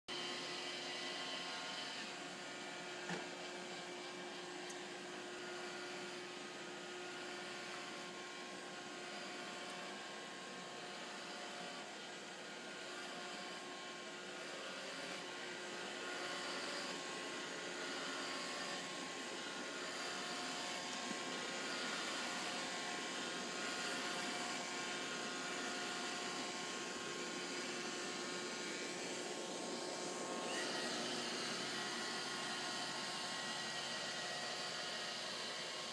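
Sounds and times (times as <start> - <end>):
robot vacuum whirring: 0.1 - 35.9.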